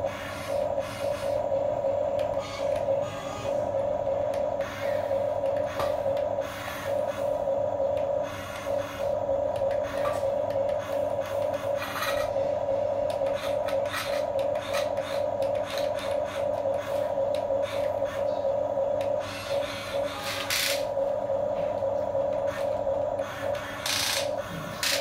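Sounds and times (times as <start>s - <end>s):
electric motors whining: 0.0s - 25.0s.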